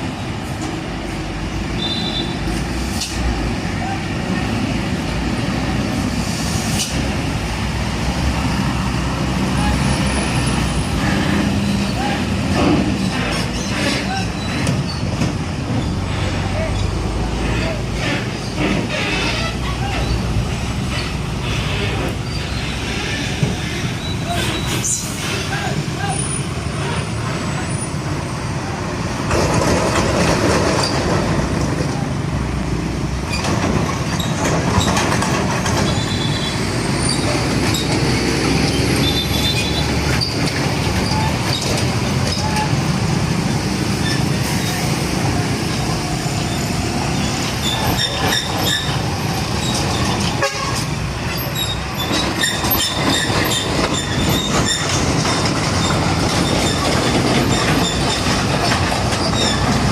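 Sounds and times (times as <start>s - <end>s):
heavy vehicle engine rumble: 0.0s - 59.9s.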